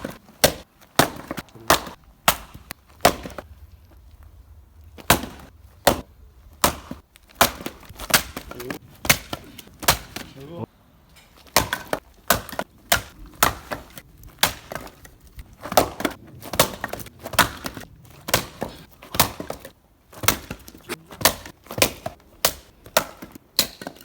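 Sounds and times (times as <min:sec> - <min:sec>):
firewood splitting cracks: 0:00.0 - 0:10.4, 0:11.1 - 0:24.0.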